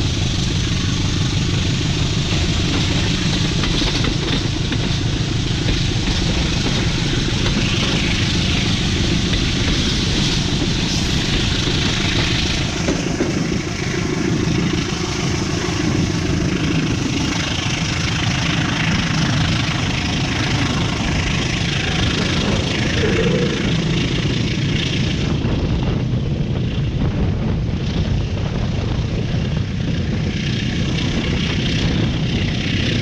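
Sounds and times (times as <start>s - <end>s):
passenger train running: 0.0s - 33.0s.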